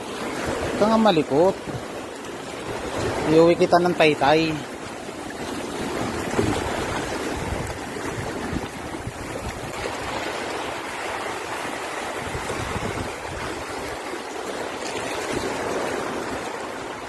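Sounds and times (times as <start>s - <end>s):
small waves washing over rocks: 0.0s - 17.0s.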